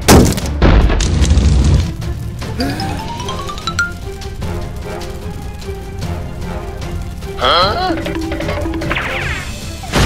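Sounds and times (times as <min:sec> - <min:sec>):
animation soundtrack music: 0:00.0 - 0:10.0.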